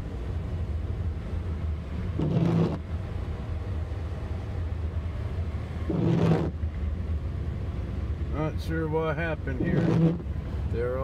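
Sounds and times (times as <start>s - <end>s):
engine and tyre rumble in cabin: 0.0s - 11.0s.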